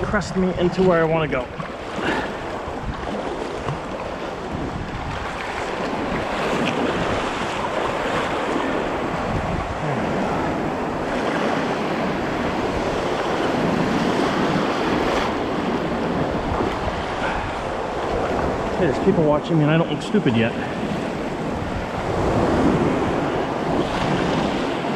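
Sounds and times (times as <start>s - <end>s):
wind noise on microphone: 0.0s - 19.3s, 20.4s - 24.9s
waves washing around kayak: 0.0s - 24.9s.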